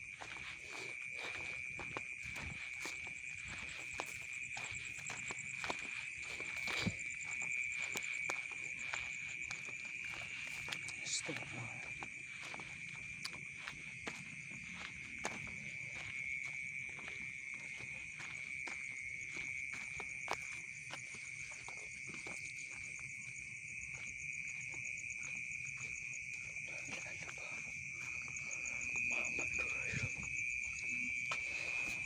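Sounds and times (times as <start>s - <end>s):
insect trill: 0.0s - 32.0s.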